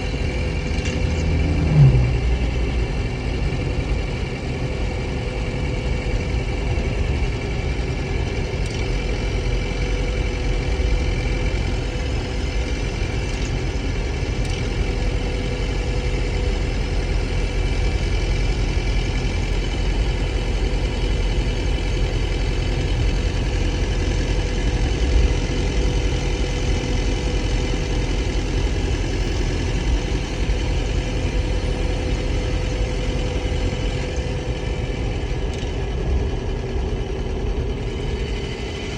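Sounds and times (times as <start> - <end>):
engine idling with rattle: 0.0 - 38.9.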